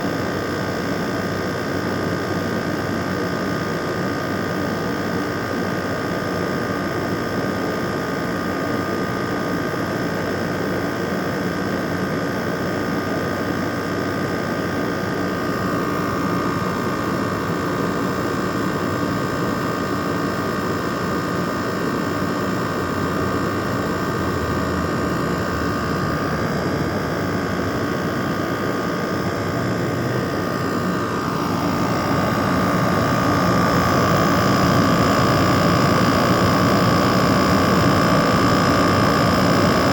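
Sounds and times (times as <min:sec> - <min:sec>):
air conditioner fan whirring: 0:00.0 - 0:39.9.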